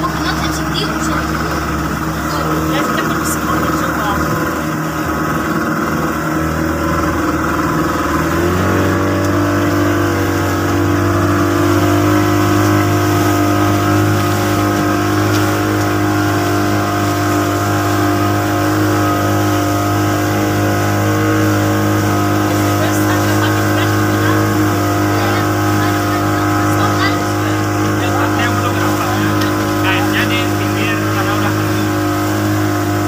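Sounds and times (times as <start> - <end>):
motorboat engine: 0.0 - 33.0
water rushing past hull: 0.0 - 33.0.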